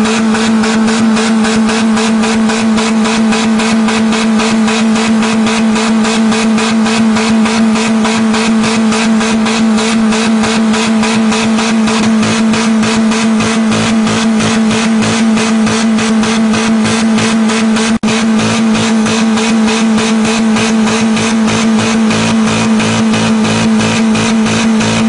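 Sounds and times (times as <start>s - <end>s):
car engine revving high: 0.0s - 25.0s.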